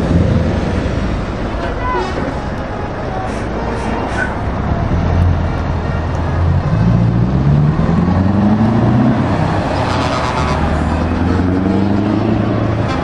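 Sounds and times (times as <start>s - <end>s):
truck diesel engine accelerating: 0.0s - 13.0s.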